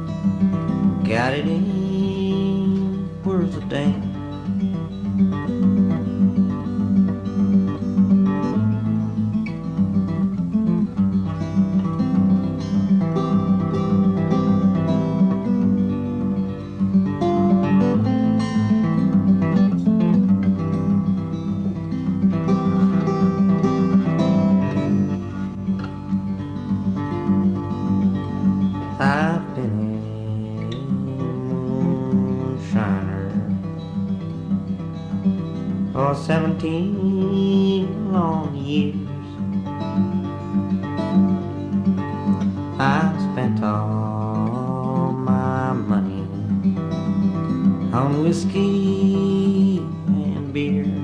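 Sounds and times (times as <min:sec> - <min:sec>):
acoustic guitar folk ballad: 0:00.0 - 0:51.0.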